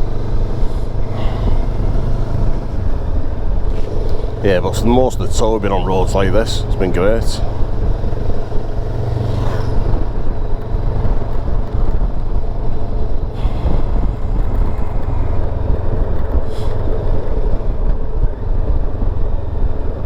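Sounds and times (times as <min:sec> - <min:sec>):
motorcycle engine running: 0:00.0 - 0:20.0
wind rush: 0:00.0 - 0:20.0.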